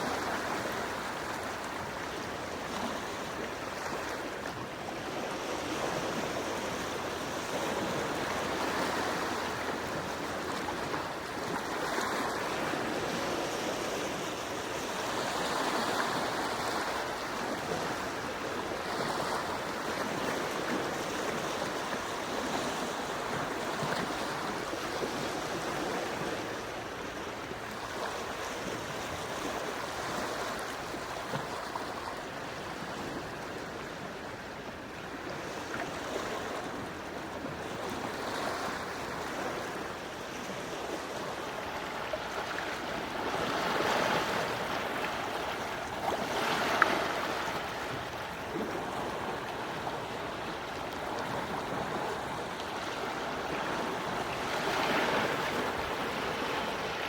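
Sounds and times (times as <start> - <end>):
gentle sea waves washing ashore: 0.0 - 57.0.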